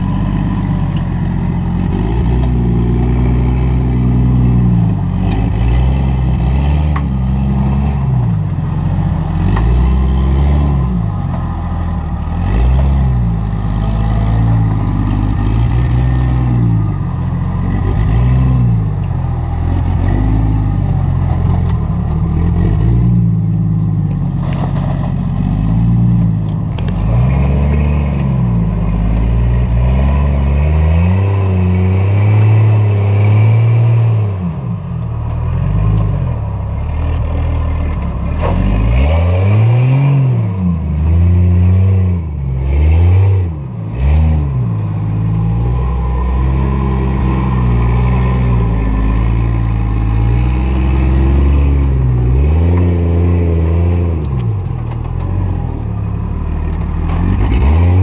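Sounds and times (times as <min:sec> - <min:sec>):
engine revving under load: 0:00.0 - 0:58.0.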